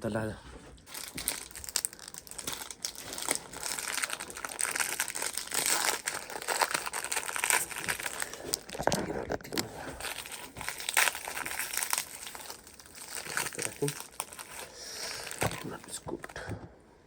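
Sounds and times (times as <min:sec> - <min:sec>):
plastic packet crinkling: 0:00.8 - 0:16.4.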